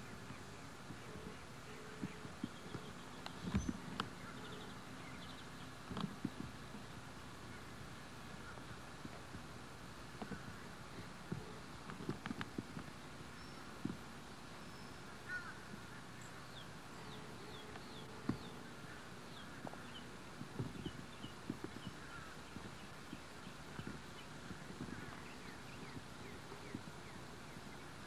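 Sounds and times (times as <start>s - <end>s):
birds chirping: 0.0s - 28.0s
low steady hiss: 0.0s - 28.0s.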